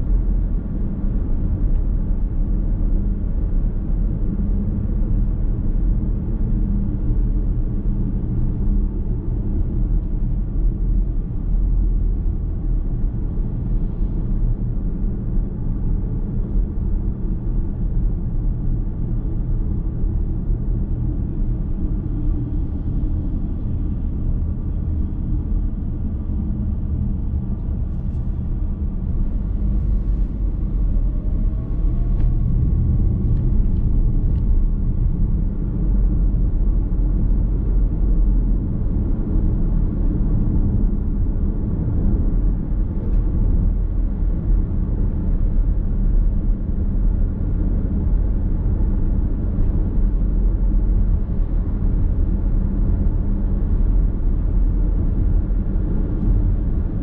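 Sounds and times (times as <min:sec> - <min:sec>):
car tyres and engine rumbling: 0:00.0 - 0:57.0.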